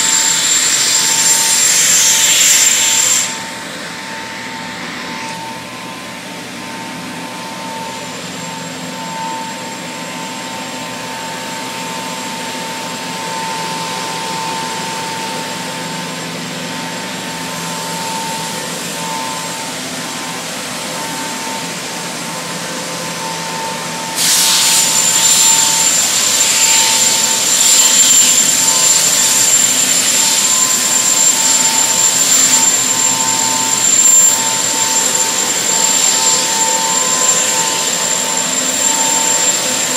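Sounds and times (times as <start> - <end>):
hissing machine with high whine: 0.0 - 39.9
machine whining steadily: 0.0 - 39.9.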